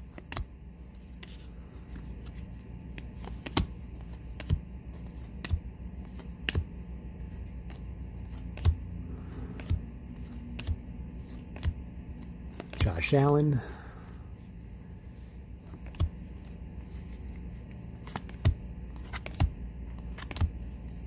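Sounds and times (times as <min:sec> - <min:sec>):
faint low hum: 0:00.0 - 0:21.0
cards tapping down: 0:00.1 - 0:12.9, 0:15.6 - 0:21.0.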